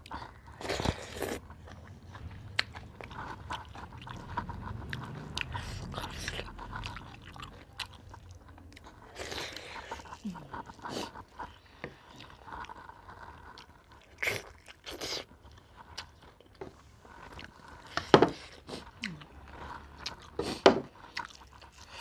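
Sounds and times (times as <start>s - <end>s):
chewing and mouth smacks: 0.0s - 22.0s.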